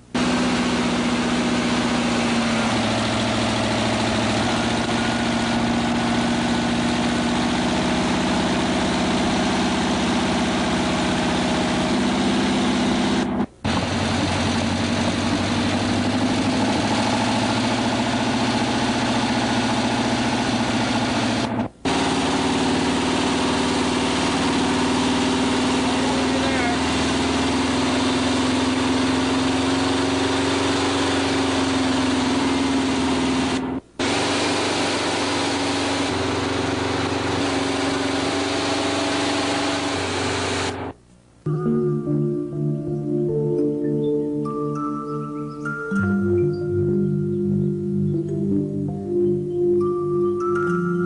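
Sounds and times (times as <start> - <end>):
vehicle engine idling: 0.0 - 41.4.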